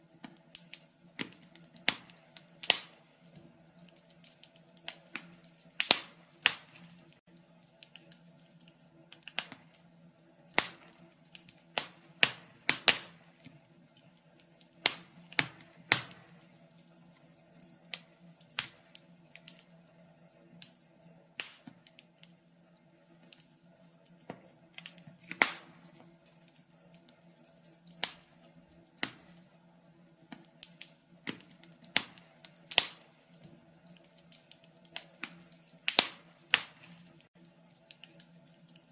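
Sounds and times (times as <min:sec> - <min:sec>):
faint steady hum: 0:00.0 - 0:38.9
logs crackling in a fireplace: 0:00.0 - 0:38.9.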